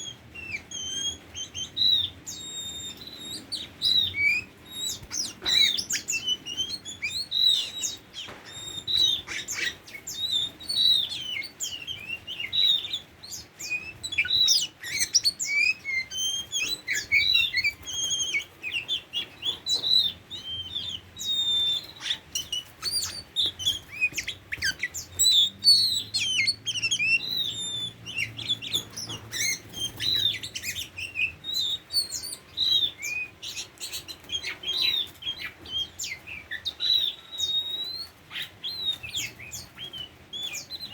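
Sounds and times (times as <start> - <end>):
bird singing varied chirps: 0.0 - 40.9.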